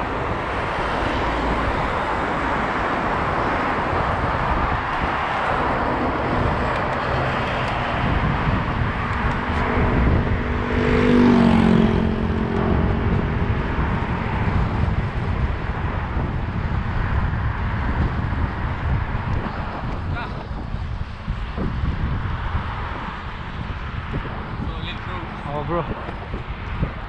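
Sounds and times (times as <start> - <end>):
vehicle engine passing: 0.0 - 26.0
wind and road noise: 0.0 - 27.0.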